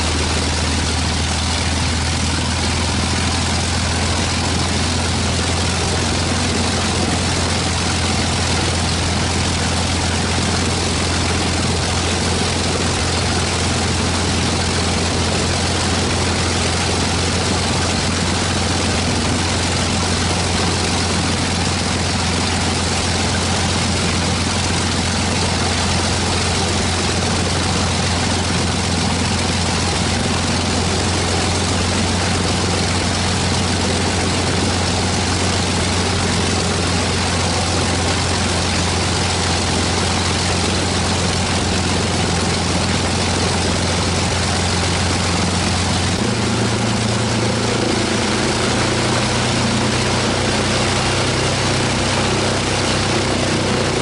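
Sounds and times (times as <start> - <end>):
aircraft piston engine running: 0.0 - 54.0.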